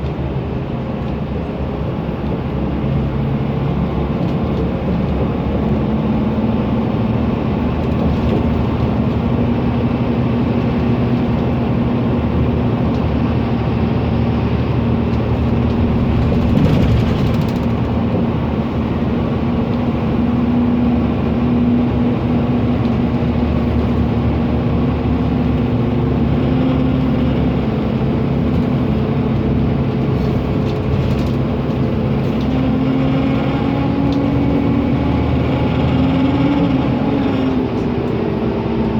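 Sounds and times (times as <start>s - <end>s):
bus engine droning: 0.0s - 38.9s.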